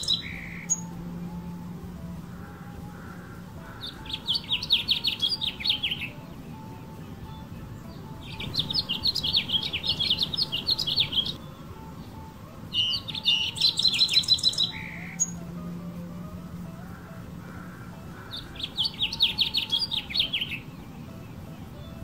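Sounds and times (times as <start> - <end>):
finch singing warbled notes: 0.0 - 22.0.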